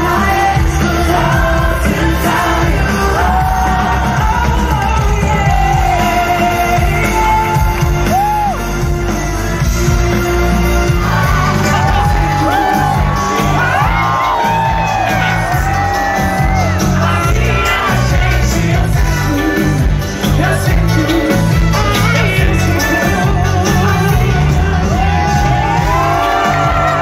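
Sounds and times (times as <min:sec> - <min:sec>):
crowd shouting and whooping: 0:00.0 - 0:08.9, 0:10.8 - 0:27.0
amplified pop music with bass beat: 0:00.0 - 0:27.0.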